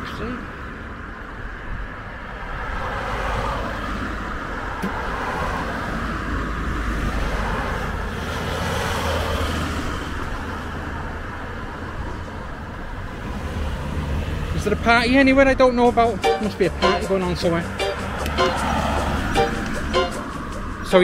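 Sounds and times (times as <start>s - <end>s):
cars passing close by: 0.0s - 21.0s.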